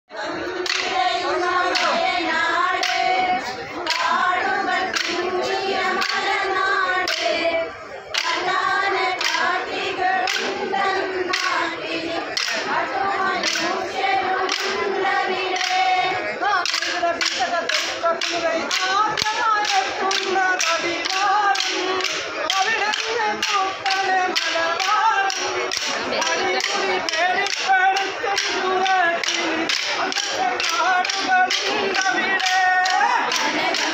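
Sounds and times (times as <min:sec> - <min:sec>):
group singing in chorus: 0:00.1 - 0:33.9
wooden sticks clacking: 0:00.6 - 0:06.4, 0:07.1 - 0:07.4, 0:08.1 - 0:15.9, 0:16.6 - 0:33.9.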